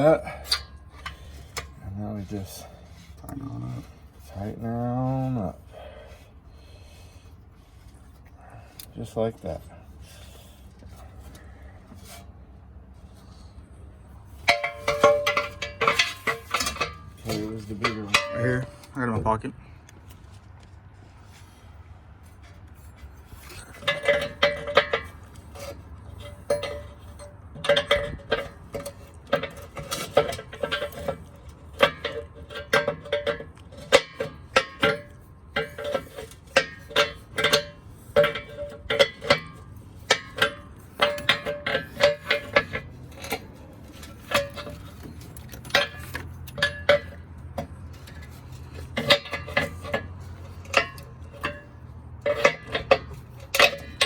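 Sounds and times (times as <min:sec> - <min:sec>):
metal tools clinking: 0:00.0 - 0:06.2, 0:13.3 - 0:19.3, 0:22.3 - 0:54.0.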